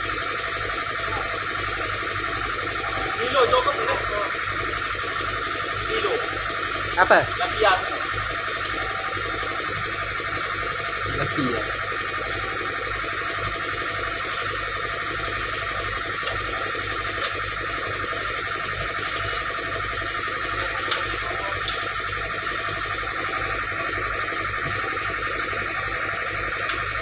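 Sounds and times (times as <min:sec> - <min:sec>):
excavator diesel engine idling: 0:00.0 - 0:27.0.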